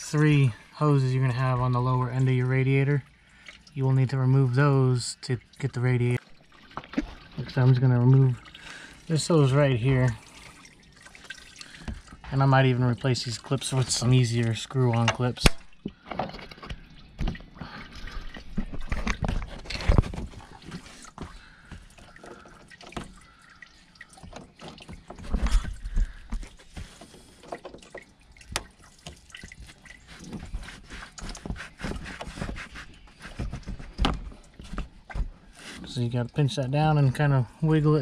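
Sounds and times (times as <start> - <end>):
coolant dripping into pan: 0.0 - 31.5.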